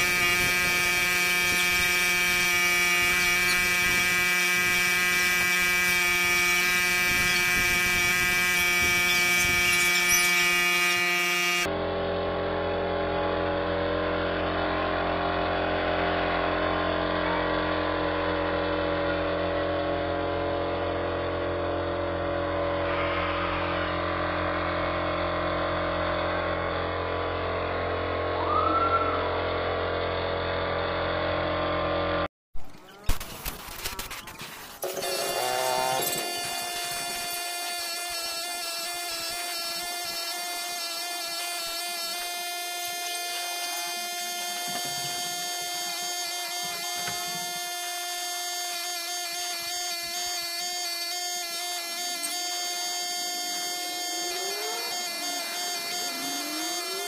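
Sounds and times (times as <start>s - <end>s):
air compressor motor whine: 0.0s - 57.0s.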